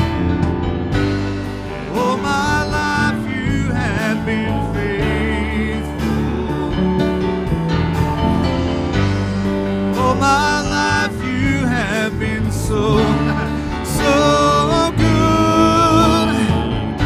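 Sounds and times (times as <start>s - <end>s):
worship band playing slow song: 0.0s - 17.0s.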